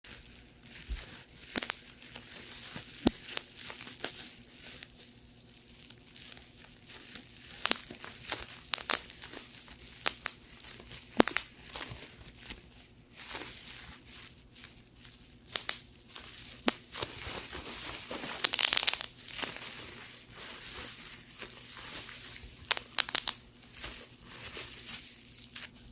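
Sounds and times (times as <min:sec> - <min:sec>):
bubble wrap crinkling: 0:00.1 - 0:25.9.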